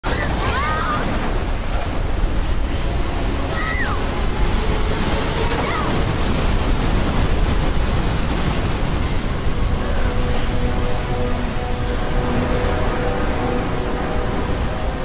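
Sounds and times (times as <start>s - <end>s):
river and waterfall rushing: 0.0s - 15.0s.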